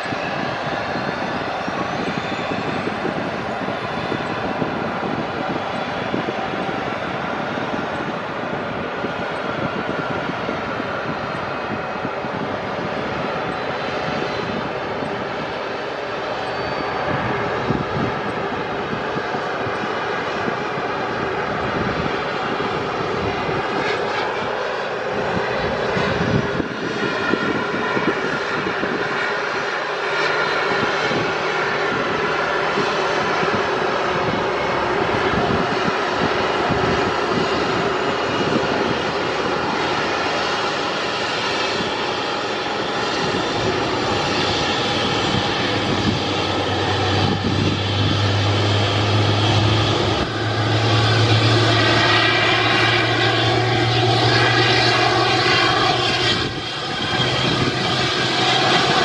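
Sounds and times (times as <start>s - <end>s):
jet turbines whining: 0.0s - 59.0s.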